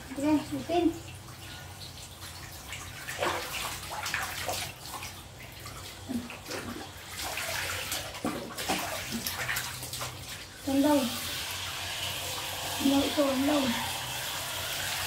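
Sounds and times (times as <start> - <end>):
water splashing in a plastic basin: 0.0 - 15.0.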